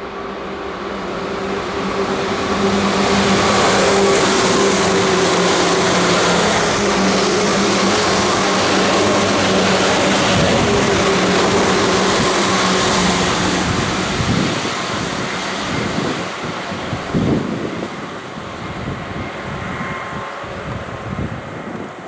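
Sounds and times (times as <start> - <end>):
electric train rumbling past: 0.0 - 22.0.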